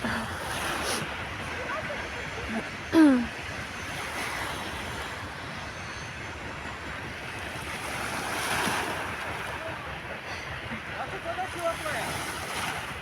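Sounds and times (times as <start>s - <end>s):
sea water lapping: 0.0s - 5.7s, 6.3s - 13.0s.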